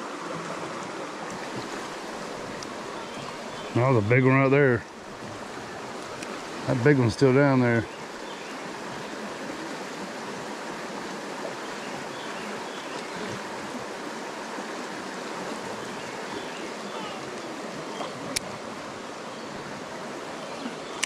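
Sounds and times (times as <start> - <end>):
creek flowing: 0.0 - 21.0.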